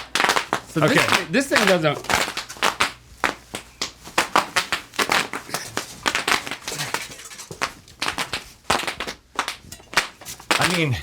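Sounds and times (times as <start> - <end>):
bubble wrap popping: 0.0 - 10.9.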